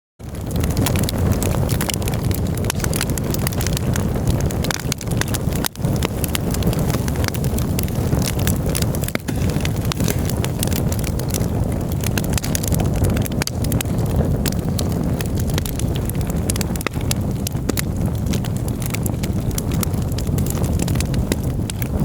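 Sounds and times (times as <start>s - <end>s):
campfire crackling and popping: 0.2s - 22.0s.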